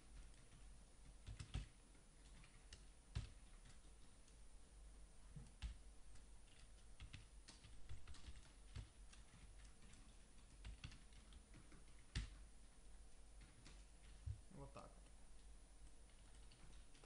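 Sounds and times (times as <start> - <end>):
typing on computer keyboard: 0.0 - 4.4, 5.4 - 12.5, 13.4 - 14.2, 15.4 - 17.0.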